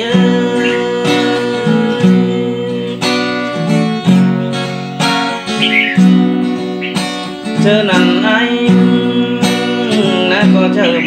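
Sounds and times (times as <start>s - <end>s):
acoustic guitar strumming: 0.0s - 11.0s
person singing: 0.0s - 11.0s.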